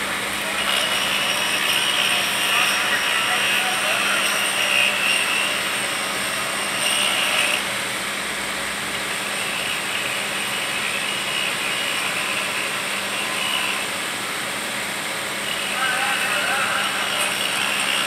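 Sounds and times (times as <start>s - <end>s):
grinding tool on steel rail: 0.0s - 7.9s, 9.0s - 14.2s, 15.3s - 18.0s.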